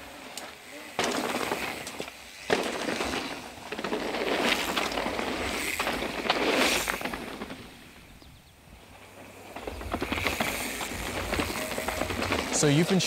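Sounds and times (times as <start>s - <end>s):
bike tyres crunching over rocks: 0.0s - 13.0s.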